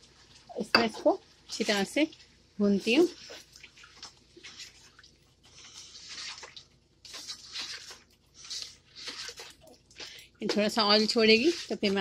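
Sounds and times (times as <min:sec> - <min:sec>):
meat sizzling and squelching in pot: 0:00.0 - 0:12.0.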